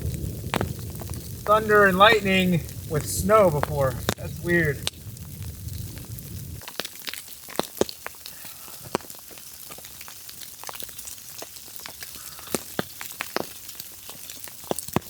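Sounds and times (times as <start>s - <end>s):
wood fire popping and crackling: 0.0s - 15.0s.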